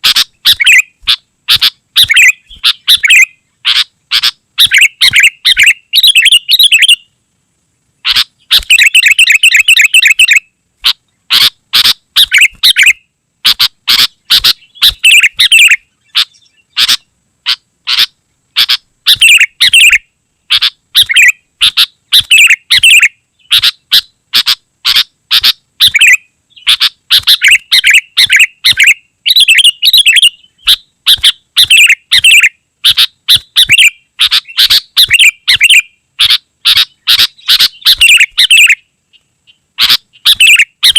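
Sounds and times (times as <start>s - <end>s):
bird chattering whistled song: 0.0s - 7.2s, 8.0s - 40.9s.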